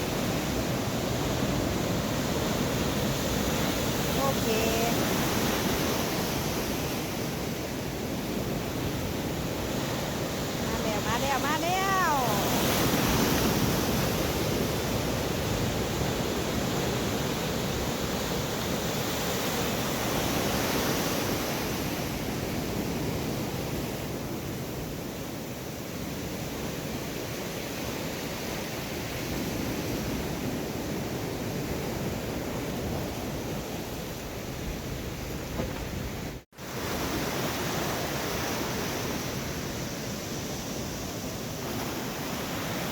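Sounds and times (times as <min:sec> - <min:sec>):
sea surf breaking on shore: 0:00.0 - 0:42.9
strong wind: 0:00.0 - 0:42.9.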